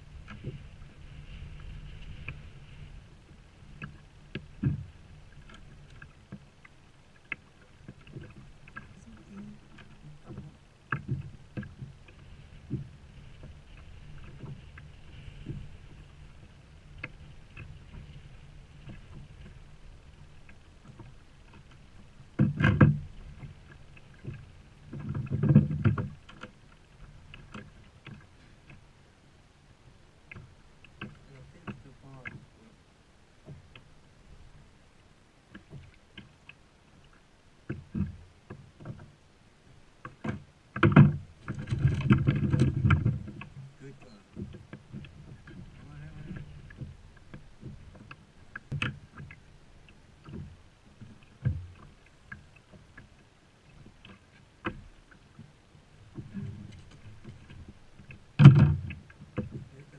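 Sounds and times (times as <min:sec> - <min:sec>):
water slapping against kayak hull: 0:00.0 - 0:28.9, 0:30.2 - 0:32.8, 0:35.5 - 0:39.2, 0:40.0 - 0:59.9.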